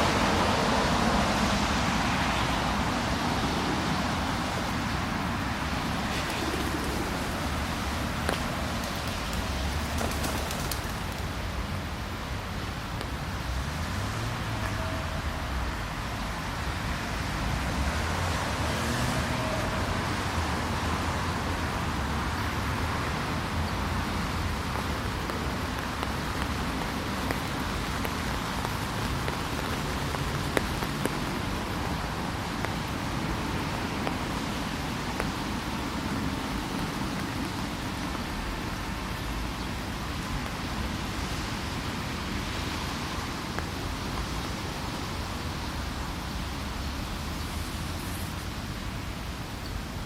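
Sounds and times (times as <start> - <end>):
distant road traffic: 0.0 - 50.0
light drizzling rain: 0.0 - 50.0.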